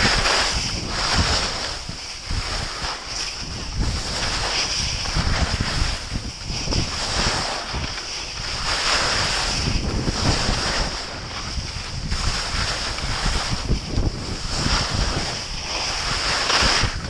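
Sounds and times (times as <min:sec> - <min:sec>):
skis sliding over snow: 0:00.0 - 0:17.0
wind buffeting microphone: 0:00.0 - 0:17.0.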